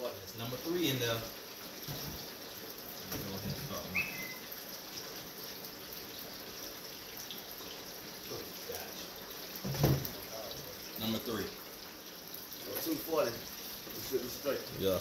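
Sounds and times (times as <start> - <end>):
oil bubbling and sizzling: 0.0 - 15.0.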